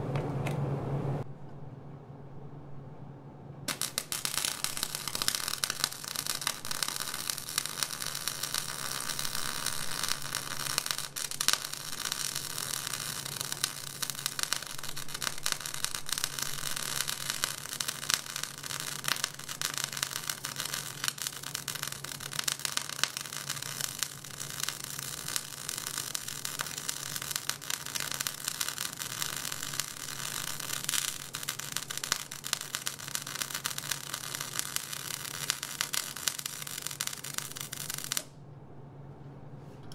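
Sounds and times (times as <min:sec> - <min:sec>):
steady low hum: 0:00.0 - 0:39.9
arc welding crackling: 0:03.7 - 0:38.4.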